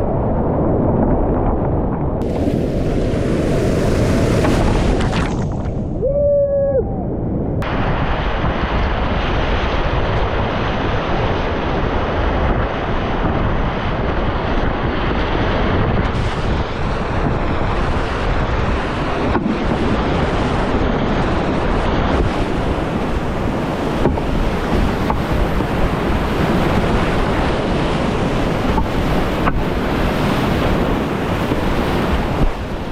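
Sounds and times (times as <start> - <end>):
wind on microphone: 0.0 - 32.9.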